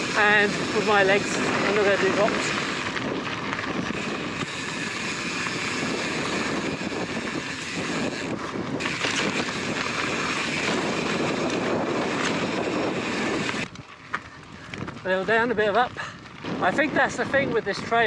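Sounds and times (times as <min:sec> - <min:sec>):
bike tyres rolling on dirt: 0:00.0 - 0:18.0
wind buffeting microphone: 0:00.0 - 0:18.0.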